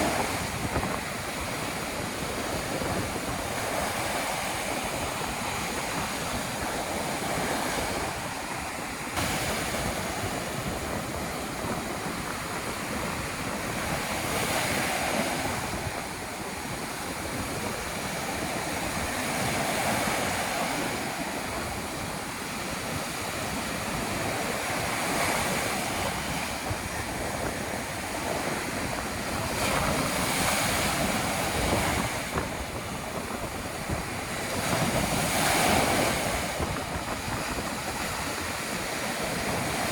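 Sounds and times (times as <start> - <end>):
ocean surf breaking: 0.0 - 39.9
wind buffeting microphone: 0.0 - 39.9.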